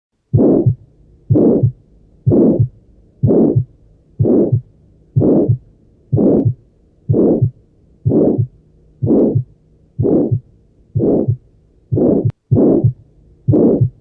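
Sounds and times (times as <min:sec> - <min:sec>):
heartbeats: 0:00.3 - 0:14.0
loud whooshing heart murmur: 0:00.3 - 0:14.0.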